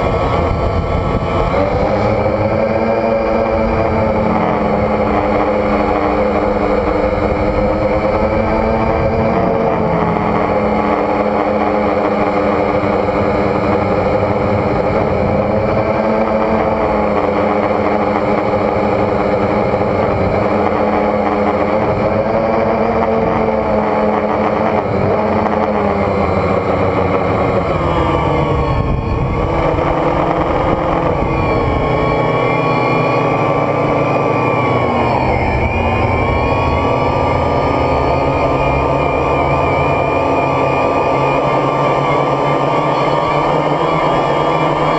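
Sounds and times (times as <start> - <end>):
drone propellers whining: 0.0 - 44.9.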